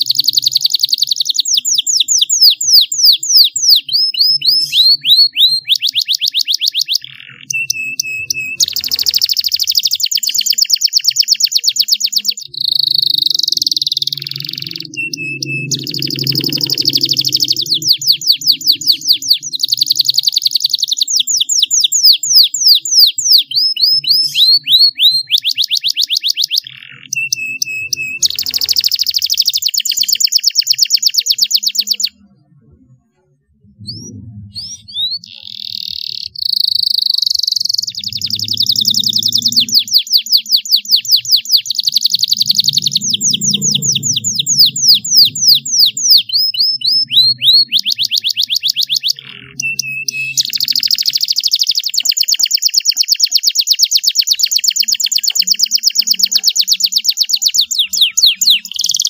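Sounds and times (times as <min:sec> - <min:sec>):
canary singing trills: 0:00.0 - 0:32.9, 0:33.5 - 0:59.0.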